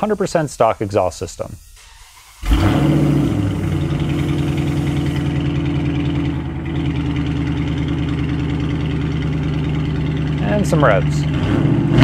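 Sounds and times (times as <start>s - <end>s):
car engine idling: 1.8s - 12.0s.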